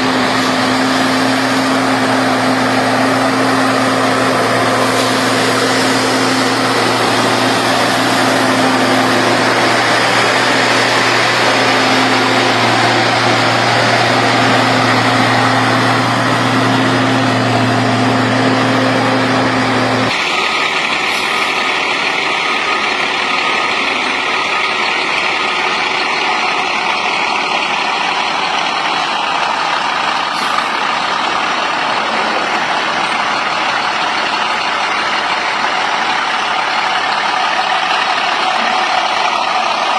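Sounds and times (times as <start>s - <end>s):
heavy machinery engine hum: 0.0s - 39.9s
noisier machine sound: 0.0s - 39.9s.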